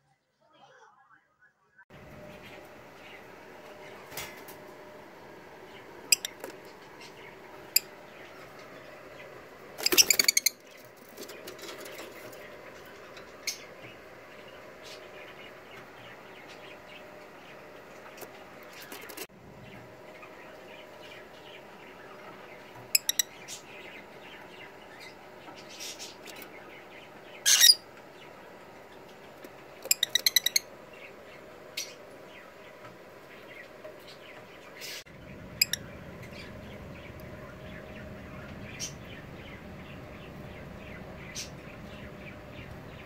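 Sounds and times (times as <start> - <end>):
lovebirds chirping rapidly: 2.2 - 43.0.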